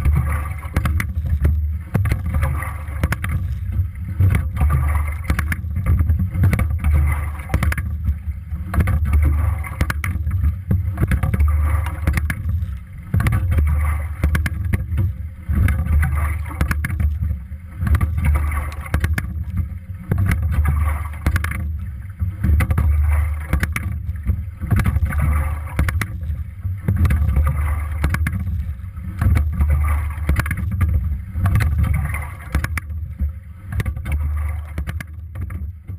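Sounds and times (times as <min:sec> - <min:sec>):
oars clicking: 0:00.0 - 0:35.9
rush of water from rowing: 0:00.0 - 0:35.9.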